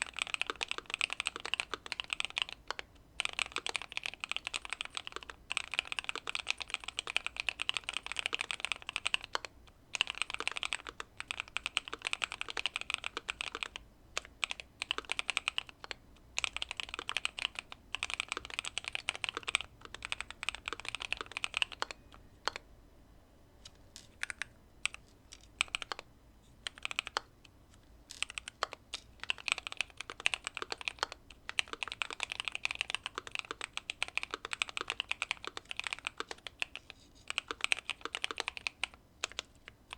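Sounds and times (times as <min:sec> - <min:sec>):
mechanical keyboard typing: 0:00.0 - 0:22.6, 0:24.0 - 0:27.5, 0:28.1 - 0:39.9.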